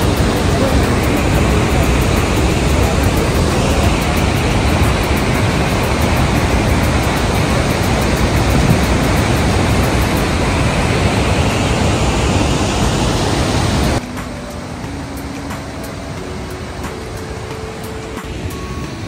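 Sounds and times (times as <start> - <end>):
waterfall and rapids rushing: 0.0 - 19.0.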